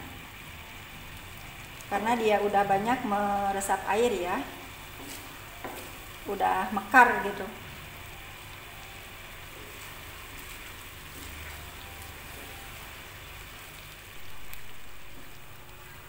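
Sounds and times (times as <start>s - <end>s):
rice simmering hiss: 0.0s - 16.0s.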